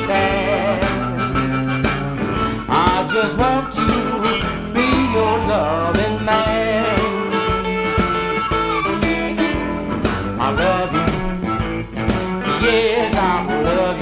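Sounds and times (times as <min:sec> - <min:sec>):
blues harmonica solo: 0:00.0 - 0:14.0
electric guitar rhythm: 0:00.0 - 0:14.0.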